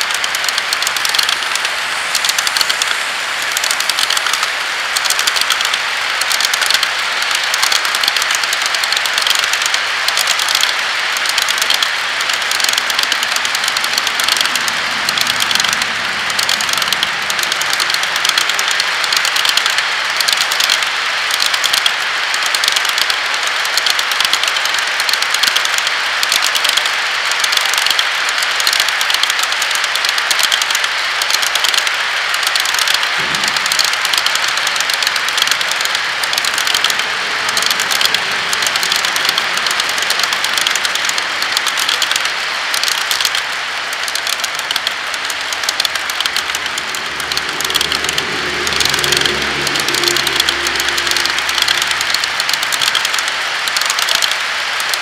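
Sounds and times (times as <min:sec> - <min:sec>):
fast fine clicking: 0:00.0 - 0:55.0
model train cars rattling on rails: 0:00.0 - 0:55.0.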